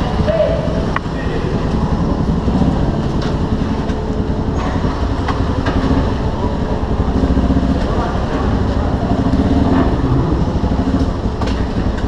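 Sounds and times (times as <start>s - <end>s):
heavy engine rumble: 0.0s - 12.0s.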